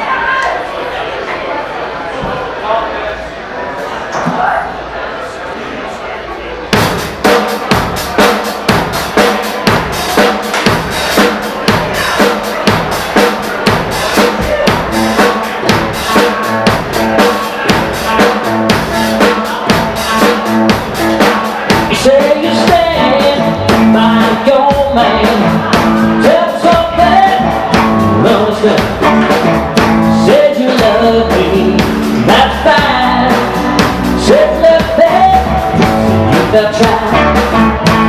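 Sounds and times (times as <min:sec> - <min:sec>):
drum kit beat: 0:06.7 - 0:38.0
live rock band playing: 0:06.8 - 0:38.0.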